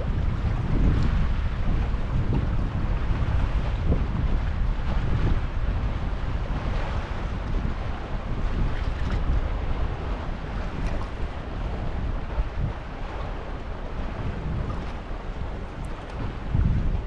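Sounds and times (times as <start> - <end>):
howling wind on microphone: 0.0 - 17.0.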